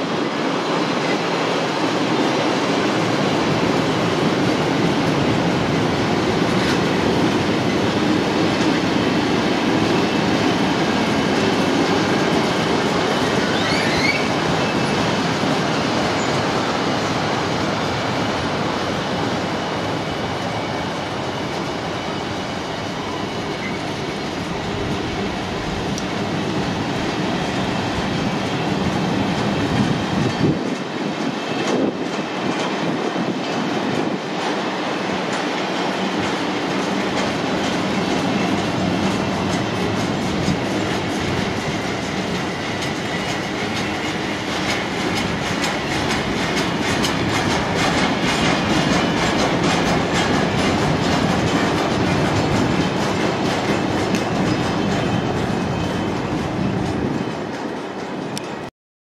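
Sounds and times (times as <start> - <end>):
steel wheels rumbling on rail: 0.0 - 58.7.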